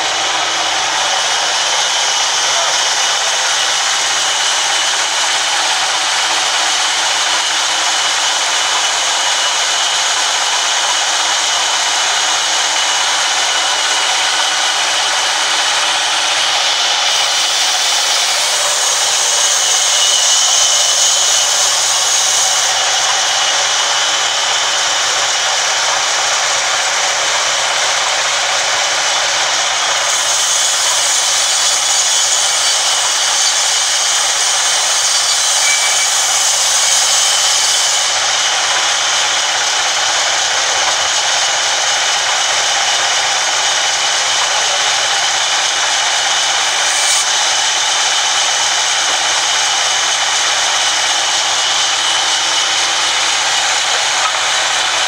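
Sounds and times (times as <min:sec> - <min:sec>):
log band saw running: 0:00.0 - 0:55.0.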